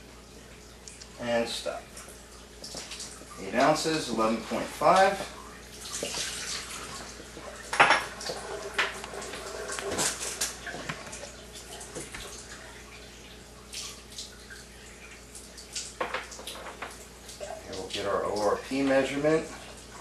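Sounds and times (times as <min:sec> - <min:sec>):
water running into sink: 0:01.7 - 0:20.0.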